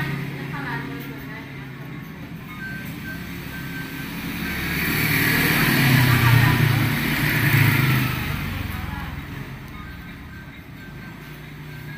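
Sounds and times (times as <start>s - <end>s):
passing vehicle engine: 0.0s - 11.9s.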